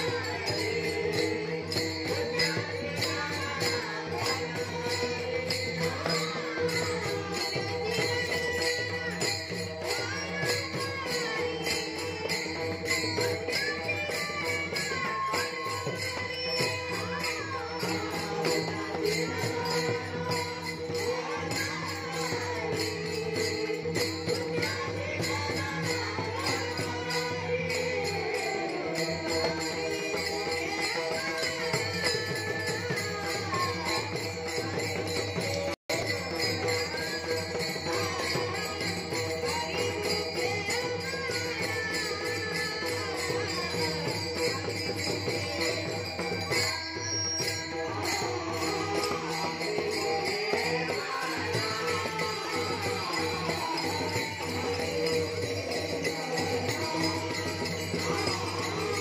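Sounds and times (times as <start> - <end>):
group chanting devotional song: 0.0 - 59.0
small hand cymbals clashing: 0.0 - 59.0.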